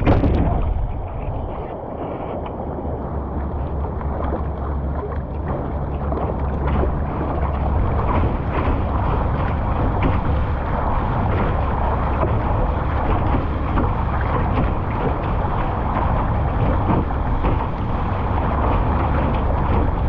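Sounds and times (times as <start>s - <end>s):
low steady rumble: 0.0s - 20.0s
paddle splashes: 0.0s - 20.0s
water rushing along kayak hull: 0.0s - 20.0s.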